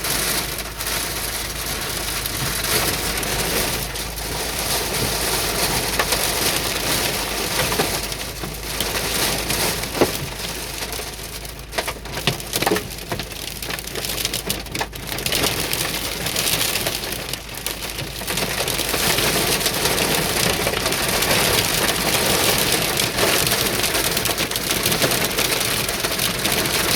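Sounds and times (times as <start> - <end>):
hailstones hitting: 0.0 - 26.9
heavy rain: 0.0 - 26.9.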